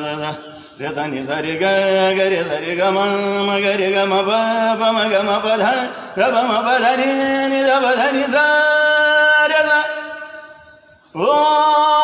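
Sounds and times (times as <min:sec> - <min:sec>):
man chanting a hymn: 0:00.0 - 0:12.0.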